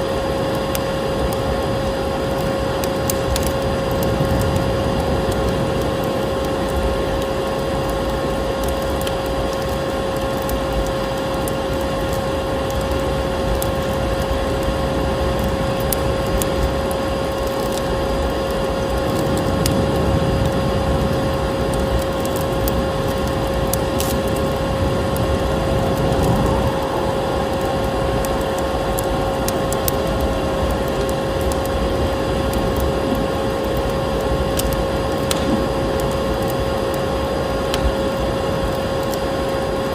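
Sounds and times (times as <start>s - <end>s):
fireplace wood crackling: 0.0s - 39.9s.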